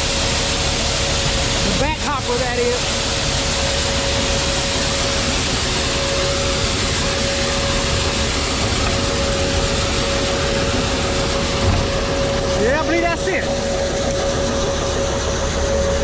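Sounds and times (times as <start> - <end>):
grain dryer running: 0.0 - 16.0.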